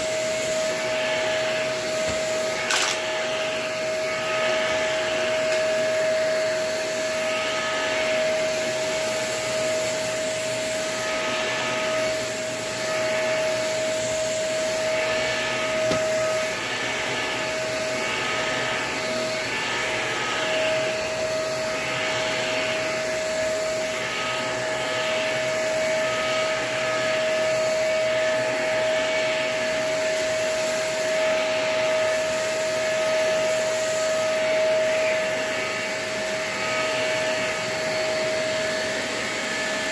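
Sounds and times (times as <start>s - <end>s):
vacuum cleaner motor whine: 0.0s - 39.9s
vacuum cleaner rushing hiss: 0.0s - 39.9s.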